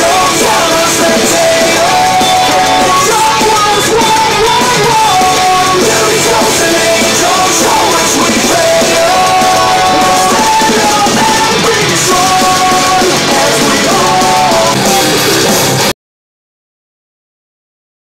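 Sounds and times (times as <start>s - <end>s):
rock song with singer: 0.0s - 15.9s.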